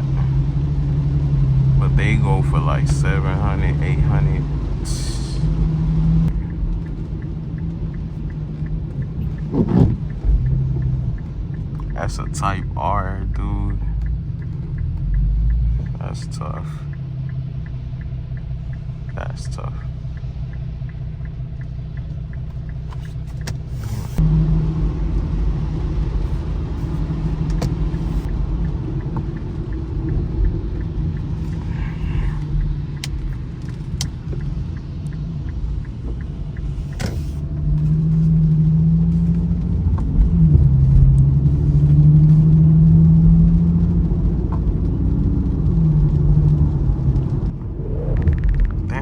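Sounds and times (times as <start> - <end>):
car engine running: 0.0 - 49.0
road rumble: 0.0 - 49.0.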